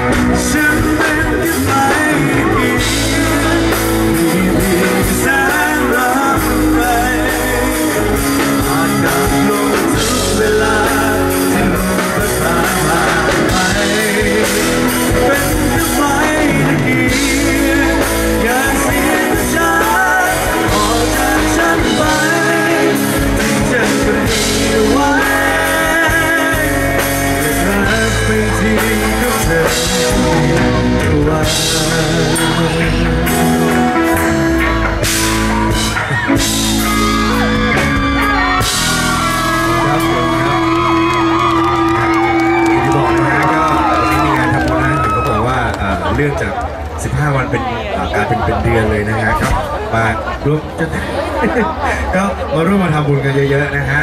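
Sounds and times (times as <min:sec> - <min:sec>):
man singing into microphone: 0:00.0 - 0:46.1
band with drums and keyboard: 0:00.0 - 0:54.0.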